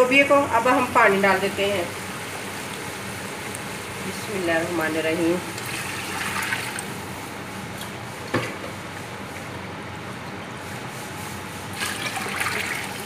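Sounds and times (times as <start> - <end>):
pot bubbling and hissing: 0.8 - 13.0.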